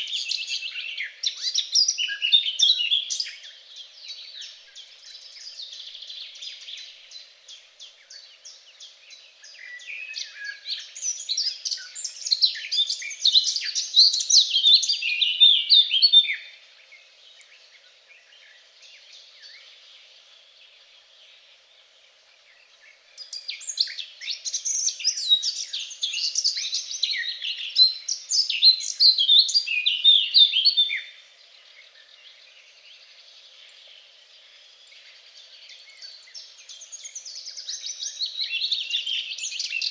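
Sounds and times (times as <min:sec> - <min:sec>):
faint bird chirping: 0:00.0 - 0:39.9
songbird singing: 0:00.0 - 0:39.9.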